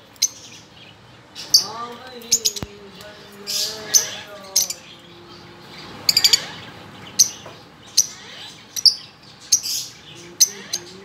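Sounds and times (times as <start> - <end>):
lovebirds chirping shrilly: 0.0 - 11.0.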